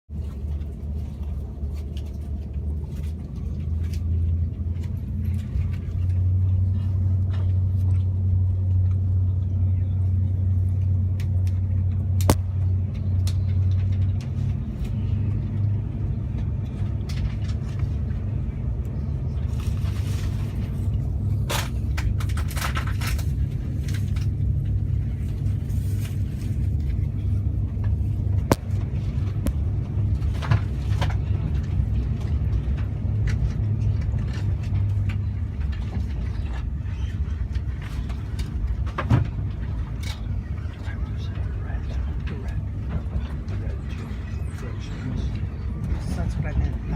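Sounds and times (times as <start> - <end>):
train rumble: 0.1 - 46.9.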